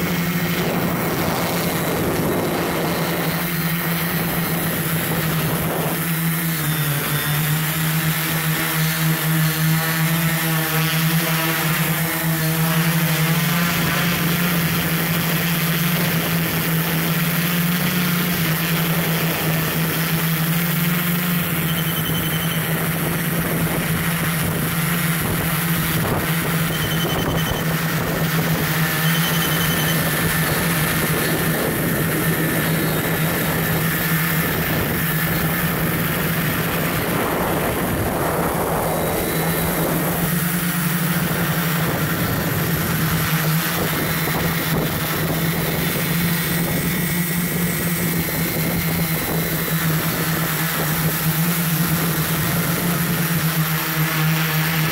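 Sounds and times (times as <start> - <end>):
drone motors humming: 0.0 - 54.9.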